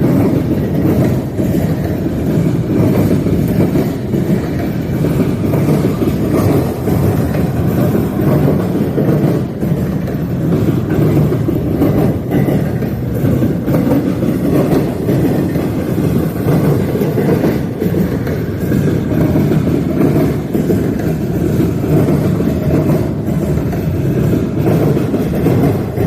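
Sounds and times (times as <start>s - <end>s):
freight train wheels rumbling: 0.0s - 26.0s
wheels clicking over rail joints: 0.0s - 26.0s.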